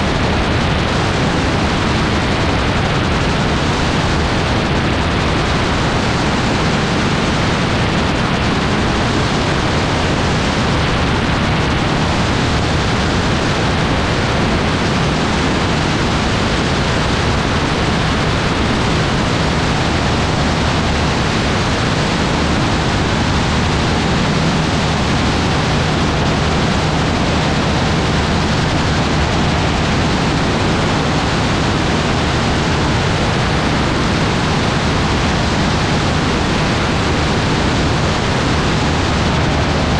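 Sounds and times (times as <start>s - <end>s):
gyroplane engine drone: 0.0s - 39.9s
wind over microphone: 0.0s - 39.9s.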